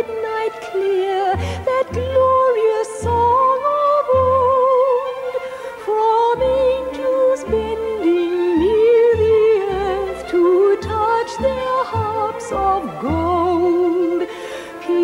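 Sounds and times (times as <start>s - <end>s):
operatic singing: 0.0s - 15.0s
orchestral accompaniment: 0.0s - 15.0s.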